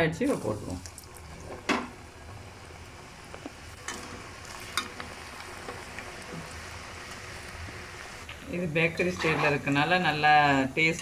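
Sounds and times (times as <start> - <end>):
dough sizzling in hot oil: 0.0 - 11.0.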